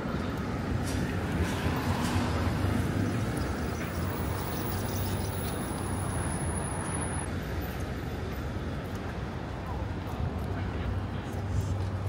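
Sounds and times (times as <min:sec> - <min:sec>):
passing vehicles rumble: 0:00.0 - 0:12.0.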